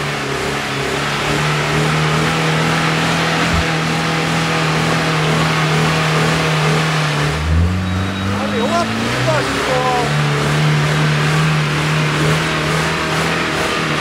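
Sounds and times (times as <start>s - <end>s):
off-road vehicle engine revving high: 0.0s - 14.0s.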